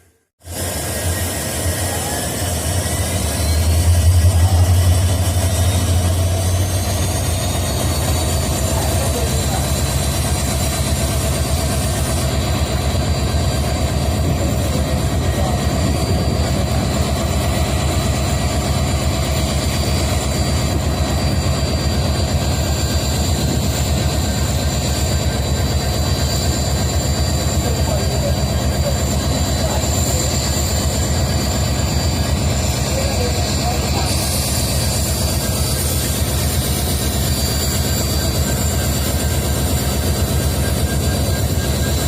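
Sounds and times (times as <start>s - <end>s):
diesel locomotive idling: 0.0s - 42.0s
high-pitched whines: 0.5s - 42.0s.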